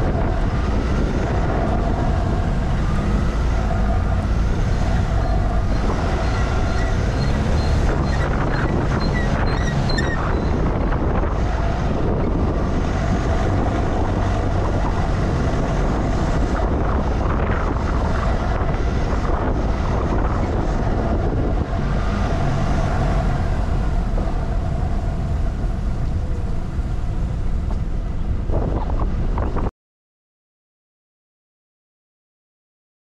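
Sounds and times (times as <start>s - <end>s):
gusty wind buffeting microphone: 0.0s - 29.7s.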